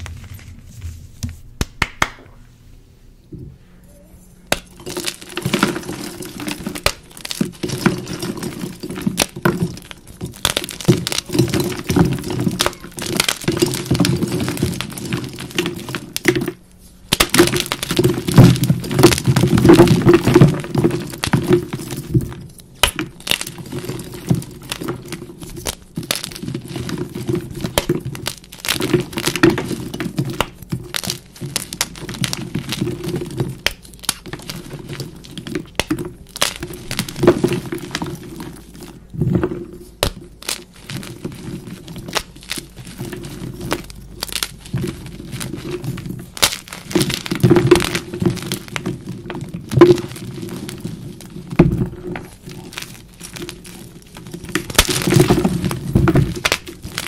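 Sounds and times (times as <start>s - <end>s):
chalk being crushed by hand: 4.5s - 39.1s, 39.7s - 57.0s.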